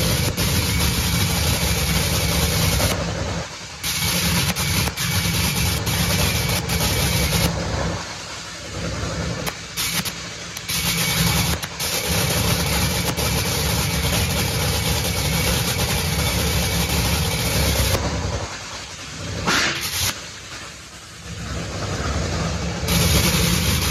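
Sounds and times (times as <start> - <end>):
dragster engine running: 0.0 - 23.9.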